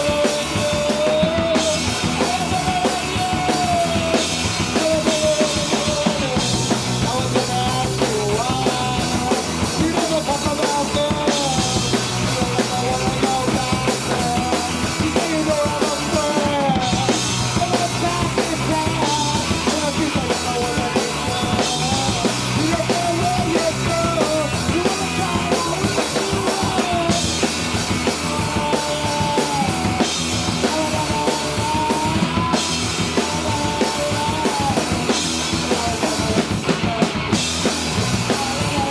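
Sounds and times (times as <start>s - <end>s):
bass drum and snare: 0.0s - 38.9s
rock band playing: 0.0s - 38.9s.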